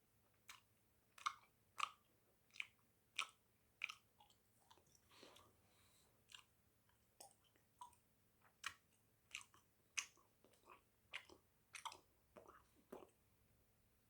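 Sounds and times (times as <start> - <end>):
chewing gum wet smacking: 0.4 - 5.5, 6.2 - 13.2.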